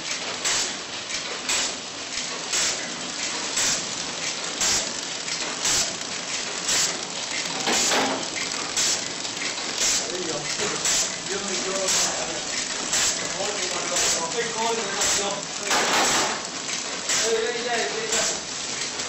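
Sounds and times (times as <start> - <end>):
packaging machine running: 0.0 - 19.0.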